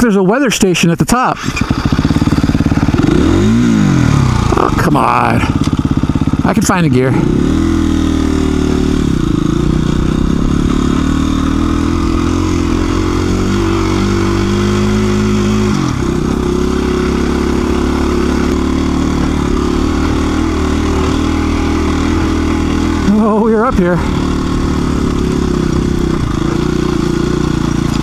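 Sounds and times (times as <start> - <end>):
dirt bike engine revving: 1.4 - 28.0.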